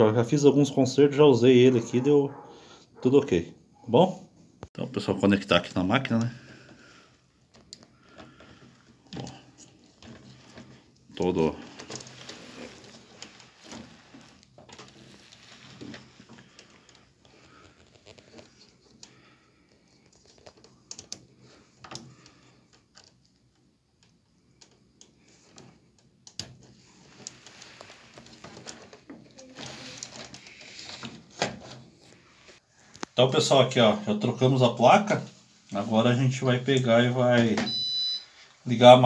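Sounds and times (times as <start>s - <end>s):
wires rustling: 4.6s - 39.0s.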